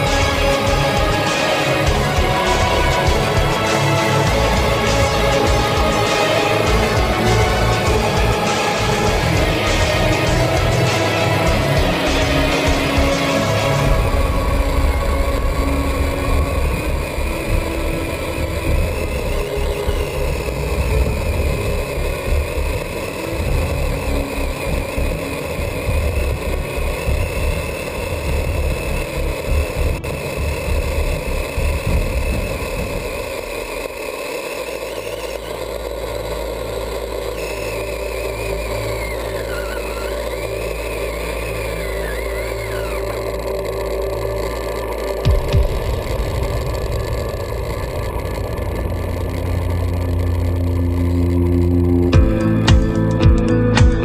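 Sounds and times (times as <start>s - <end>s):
drivetrain and tyres rumbling: 0.0s - 54.0s
electric motor whine: 0.0s - 54.0s
steady low hum: 0.0s - 54.0s.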